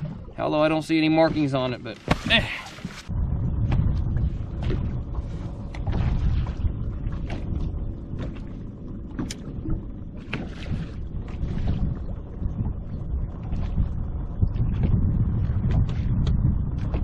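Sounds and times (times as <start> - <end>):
water lapping against hull: 0.0 - 17.0
wind on microphone: 0.0 - 17.0.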